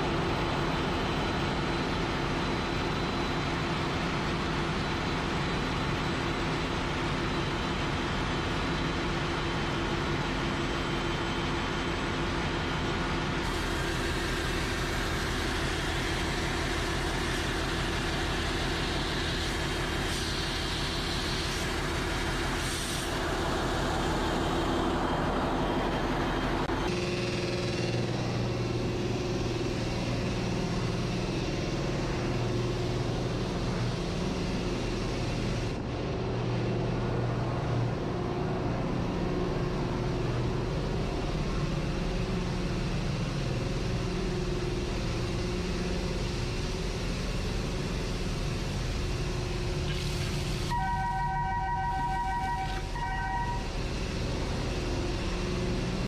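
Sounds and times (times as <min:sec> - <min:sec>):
deep machinery hum: 0:00.0 - 0:56.0
engine room machinery drone: 0:00.0 - 0:56.0.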